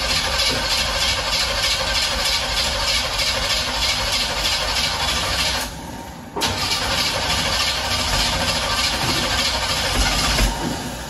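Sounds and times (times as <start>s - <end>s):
engine starting: 0.2s - 5.8s, 6.4s - 11.0s.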